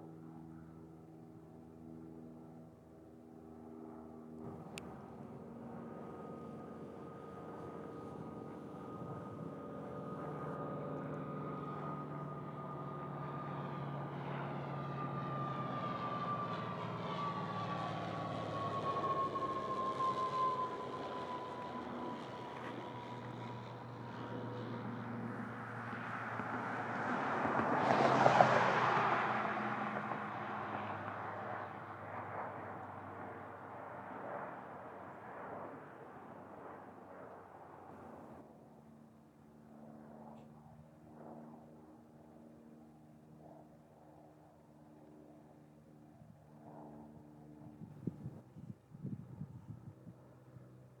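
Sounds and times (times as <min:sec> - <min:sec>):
aircraft engine whine: 0:00.0 - 0:51.0.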